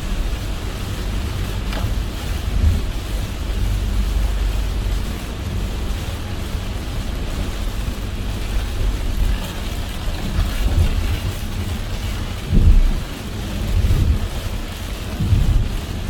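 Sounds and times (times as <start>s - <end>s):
rain hissing: 0.0s - 16.0s
tyres rumbling on wet road: 0.0s - 16.0s.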